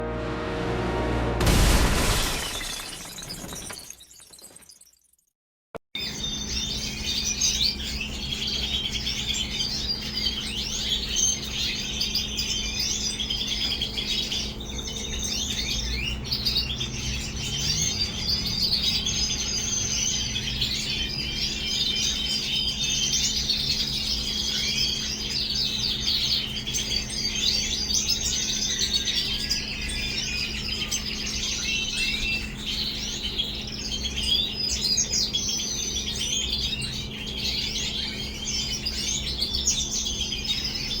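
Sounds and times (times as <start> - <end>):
birds chirping and twittering: 6.0 - 41.0.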